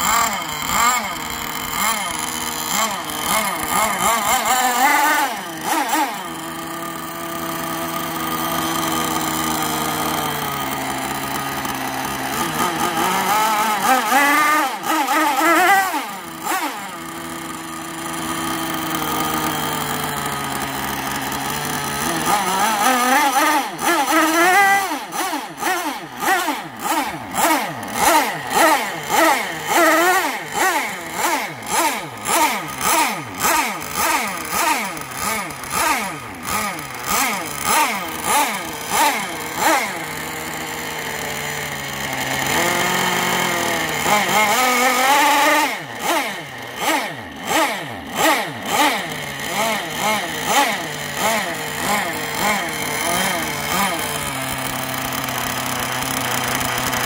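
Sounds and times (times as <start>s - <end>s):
model boat engine revving: 0.0s - 57.0s.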